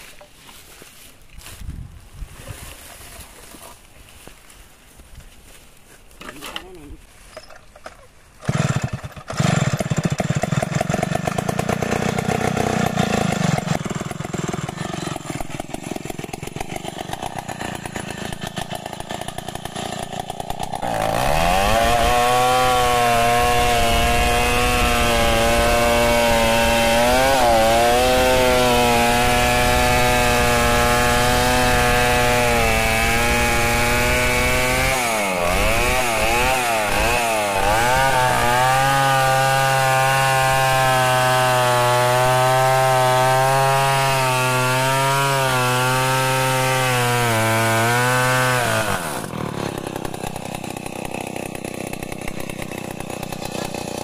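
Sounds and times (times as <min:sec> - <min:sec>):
chainsaw cutting wood: 0:06.2 - 0:54.0
chainsaw idling and revving: 0:07.8 - 0:54.0.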